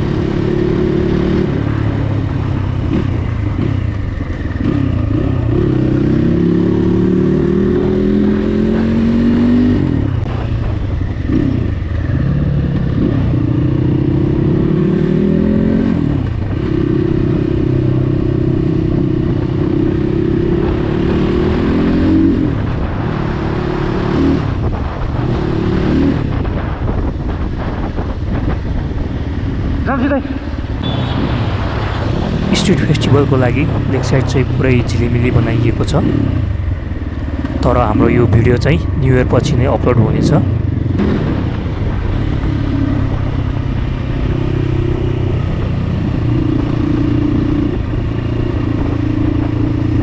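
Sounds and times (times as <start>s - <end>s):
dirt bike engine accelerating: 0.0s - 50.0s.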